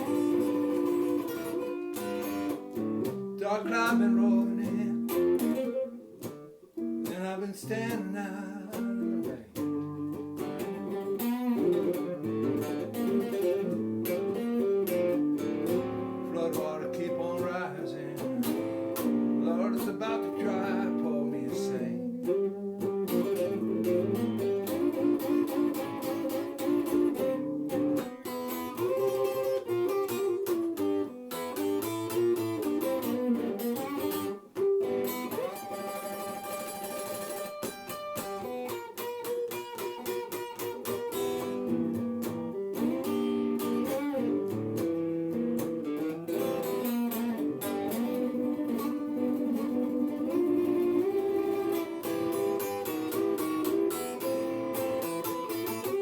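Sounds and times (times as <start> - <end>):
blues guitar playing: 0.0 - 56.0.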